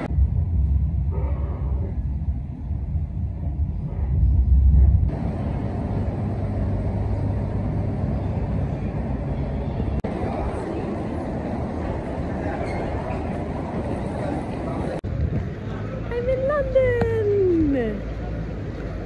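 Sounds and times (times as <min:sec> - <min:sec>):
station hall background hiss: 0:00.0 - 0:19.0
train rumble inside carriage: 0:00.0 - 0:19.0.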